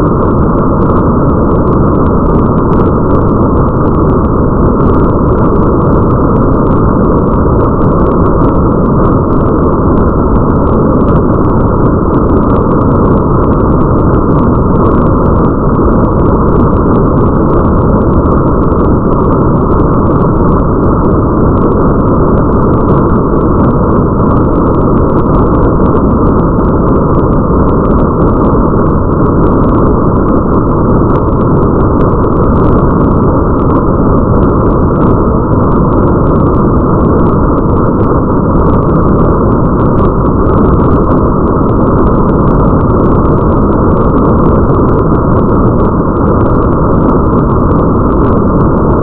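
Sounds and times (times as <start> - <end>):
low rumble: 0.0 - 49.0
muffled rain rushing: 0.0 - 49.0
rain drop ticks: 0.1 - 49.0.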